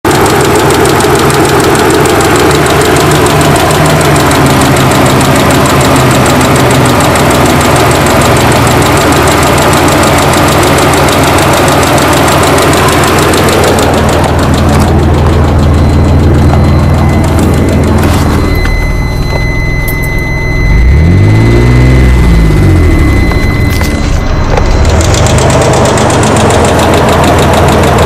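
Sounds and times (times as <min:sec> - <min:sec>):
engine idling with ticking: 0:00.1 - 0:28.0.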